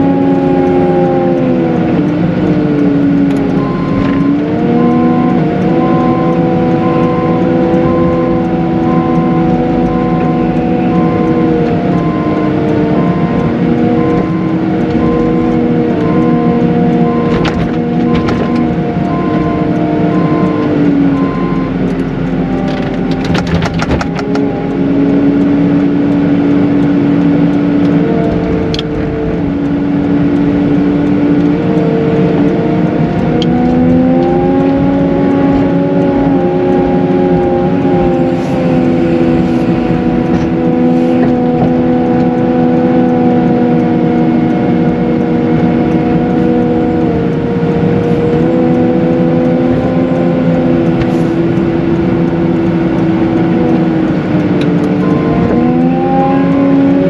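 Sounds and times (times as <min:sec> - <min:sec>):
loader diesel engine running: 0:00.0 - 0:57.0.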